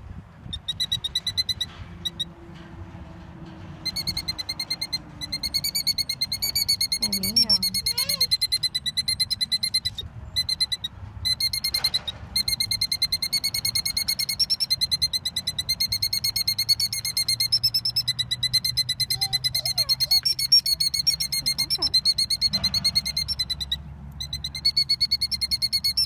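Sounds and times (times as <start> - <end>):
bird trilling alarm call: 0.5 - 2.4, 3.8 - 26.0.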